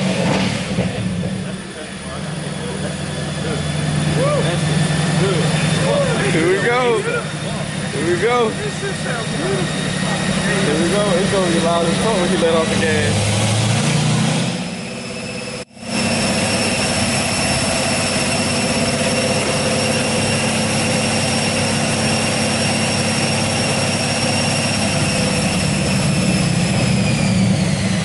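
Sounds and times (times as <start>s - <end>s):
car engine and roller noise: 0.0s - 28.0s
high whine: 0.2s - 28.0s.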